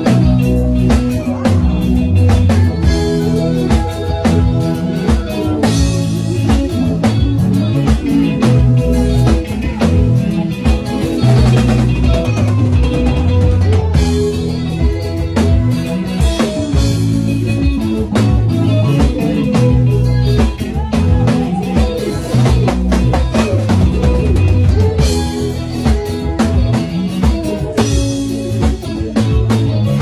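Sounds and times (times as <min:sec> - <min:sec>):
drum kit: 0:00.0 - 0:30.0
guitar: 0:00.0 - 0:30.0
low bass notes: 0:00.0 - 0:30.0.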